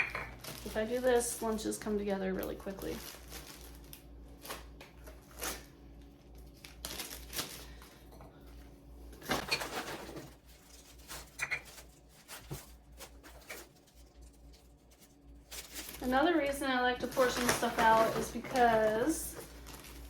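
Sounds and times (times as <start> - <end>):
plastic bags crinkling: 0.0 - 8.1, 9.2 - 20.0
low steady hum: 0.0 - 20.0.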